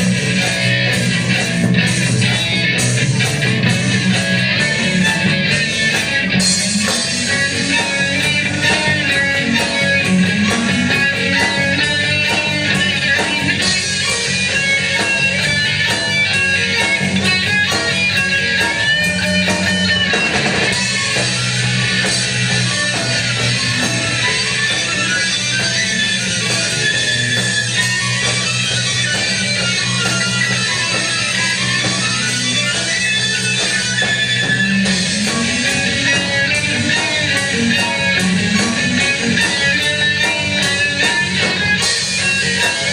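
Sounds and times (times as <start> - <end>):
band playing rock music: 0.0 - 42.9
steady bass line: 0.0 - 42.9
strummed guitar: 0.0 - 42.9.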